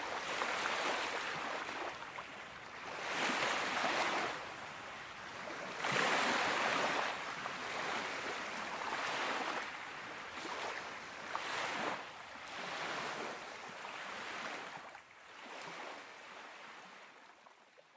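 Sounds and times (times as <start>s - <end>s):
small waves washing onto beach: 0.0s - 17.6s.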